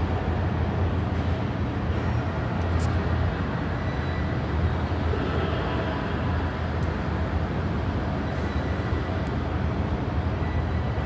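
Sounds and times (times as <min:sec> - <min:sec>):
airport background noise: 0:00.0 - 0:11.0.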